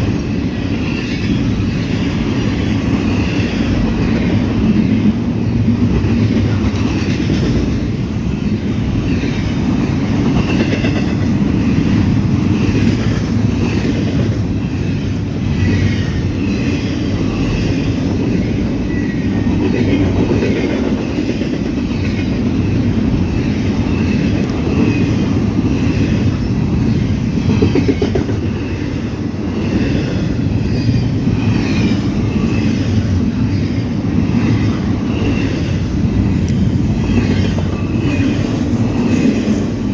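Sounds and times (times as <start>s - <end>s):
clickety-clack of train cars: 0.0s - 39.9s
freight train rumbling past: 0.0s - 39.9s.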